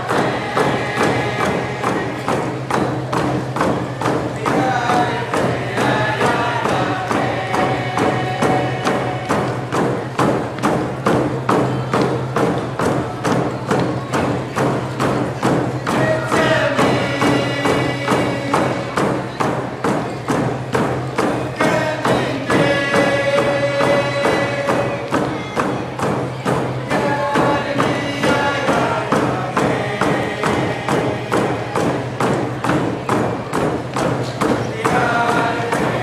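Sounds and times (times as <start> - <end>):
group of voices singing: 0.0 - 10.4, 15.4 - 36.0
frame drums beating: 0.0 - 36.0.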